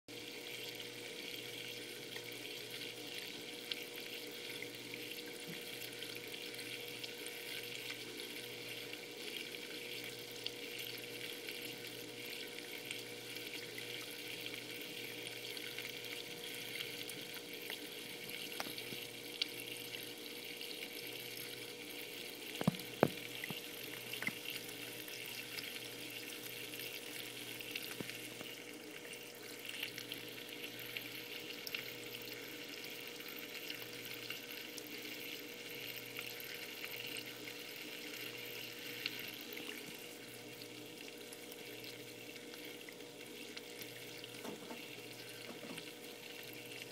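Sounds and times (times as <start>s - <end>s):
water dripping and trickling: 0.2s - 46.9s.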